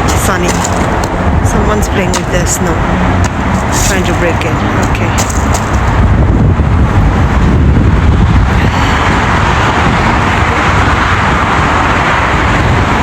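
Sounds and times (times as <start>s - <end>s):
road traffic roar: 0.0s - 13.0s
wind on microphone: 0.0s - 13.0s.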